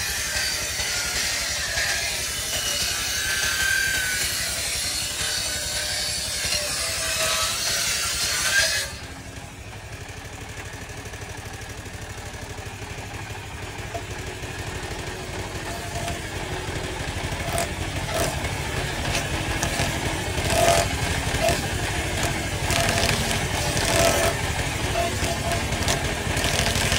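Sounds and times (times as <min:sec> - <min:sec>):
saw cutting through wood: 0:00.0 - 0:09.6, 0:13.8 - 0:26.9
engine running with low pulse: 0:00.0 - 0:26.9.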